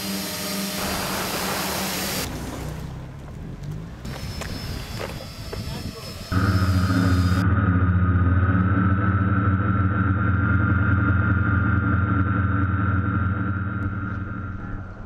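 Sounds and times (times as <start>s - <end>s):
drone propellers buzzing: 0.0s - 2.4s, 4.0s - 15.0s.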